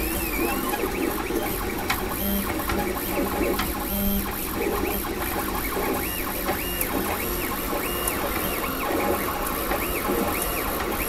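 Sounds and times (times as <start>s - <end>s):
cooling fans whirring: 0.0s - 11.0s
stepper motors whining: 0.0s - 11.0s.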